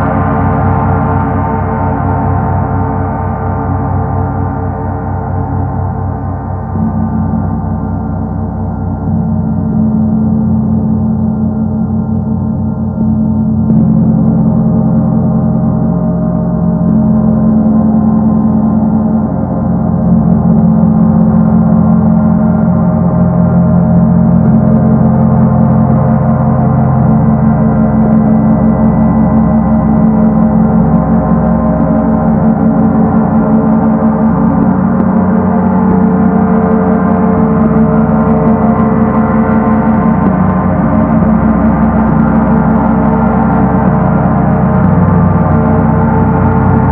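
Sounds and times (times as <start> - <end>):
gong ringing: 6.4 - 46.9.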